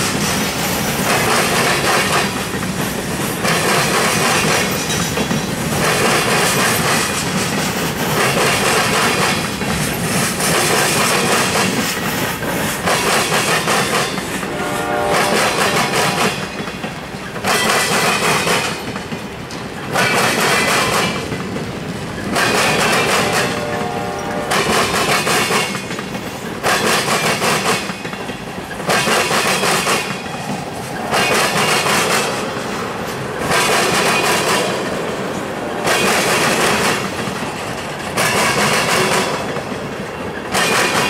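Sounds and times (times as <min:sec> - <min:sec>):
train wheels clattering over crossing: 0:00.0 - 0:41.0.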